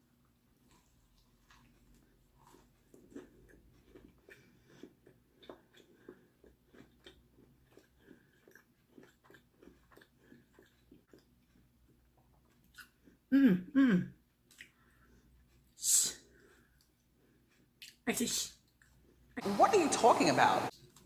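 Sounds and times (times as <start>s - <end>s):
person chewing food: 0.0s - 13.3s, 14.1s - 18.0s, 18.6s - 19.4s.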